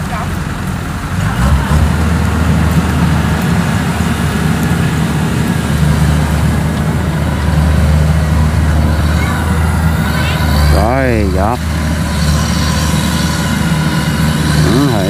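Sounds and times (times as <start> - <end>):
combine harvester diesel engine: 0.0 - 15.0
tracked cart engine: 0.0 - 15.0.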